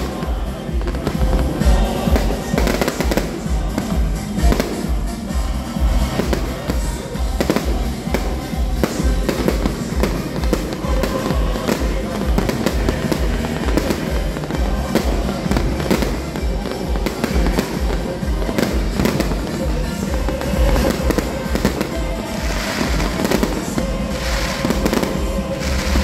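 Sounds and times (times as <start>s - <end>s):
fireworks banging and crackling: 0.0s - 26.0s
music with pulsing bass beat: 0.0s - 26.0s.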